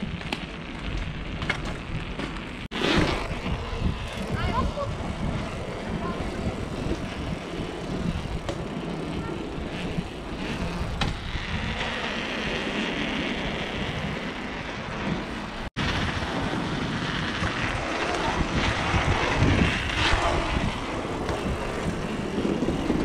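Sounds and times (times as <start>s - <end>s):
bike tyres rumbling on paving: 0.0s - 23.0s
wind on camera microphone: 0.0s - 23.0s.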